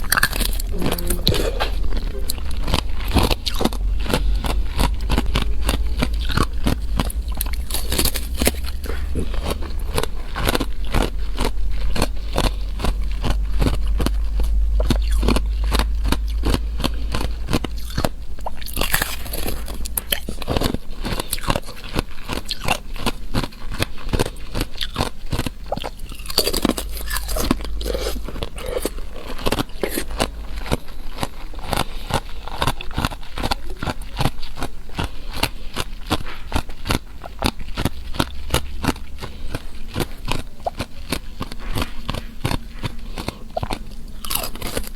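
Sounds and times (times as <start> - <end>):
ice being chewed and crunched: 0.0 - 44.9
steady low hum: 0.0 - 44.9.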